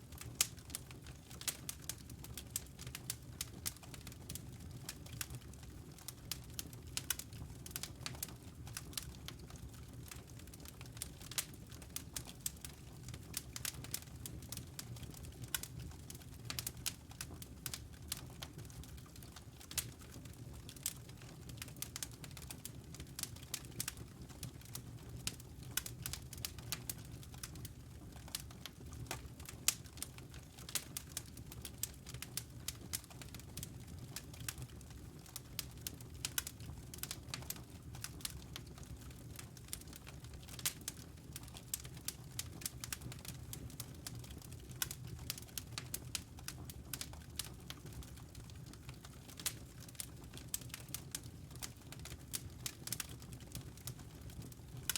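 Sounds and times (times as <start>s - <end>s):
logs crackling and popping: 0.2s - 54.9s
low rumble of flames: 0.2s - 54.9s.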